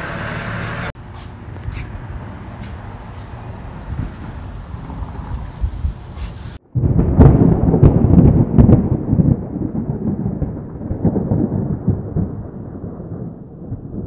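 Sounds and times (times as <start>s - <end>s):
thunderclap: 2.7s - 14.0s.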